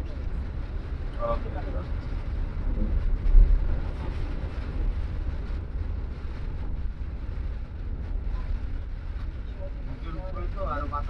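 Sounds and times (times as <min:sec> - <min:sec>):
bus engine and road rumble: 0:00.0 - 0:11.0
wind noise: 0:00.0 - 0:11.0.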